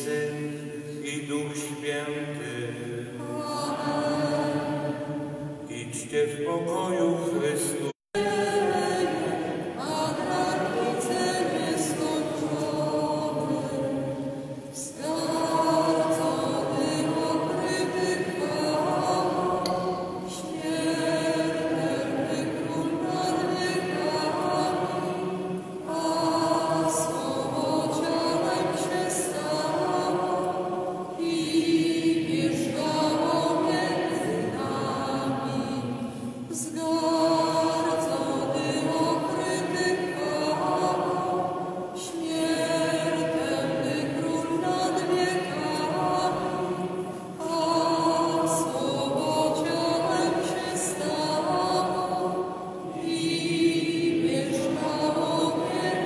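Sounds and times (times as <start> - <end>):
people singing a hymn: 0.0 - 56.0.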